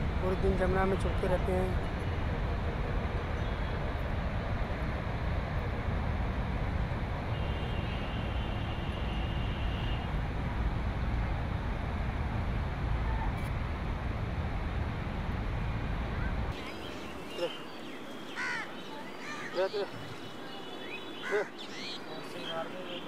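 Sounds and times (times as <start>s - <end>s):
distant city traffic rumble: 0.0s - 23.0s.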